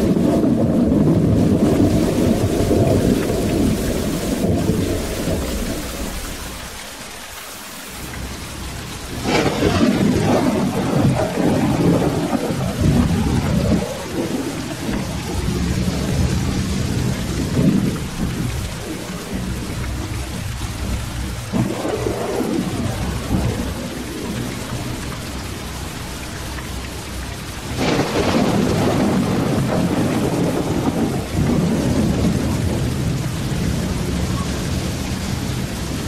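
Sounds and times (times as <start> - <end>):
thunder rumbling: 0.0 - 7.2, 7.8 - 36.0
steady rain: 0.0 - 36.0.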